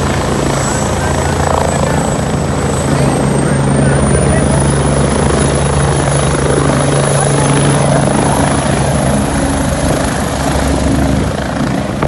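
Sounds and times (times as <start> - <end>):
helicopter running: 0.0 - 12.0.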